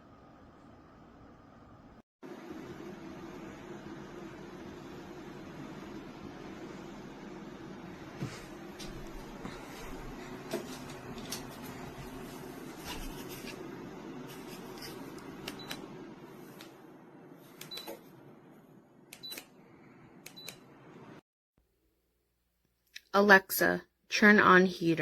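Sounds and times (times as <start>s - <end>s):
heater fan whirring: 0.0s - 21.2s.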